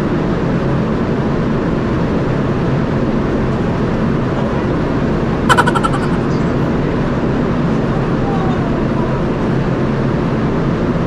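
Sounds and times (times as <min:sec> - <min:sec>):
low rumble of ship machinery: 0:00.0 - 0:11.0.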